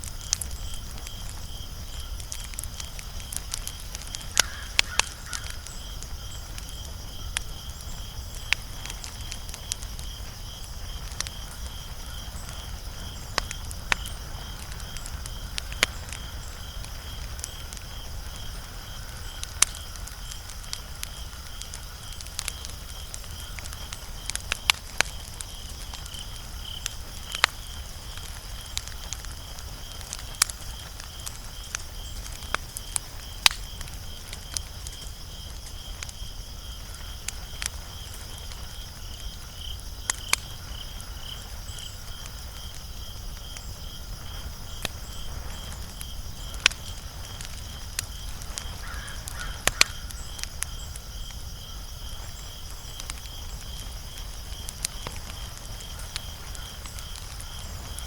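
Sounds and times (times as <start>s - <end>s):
insect chirping: 0.0s - 58.0s
wood fire crackling and popping: 0.0s - 58.0s.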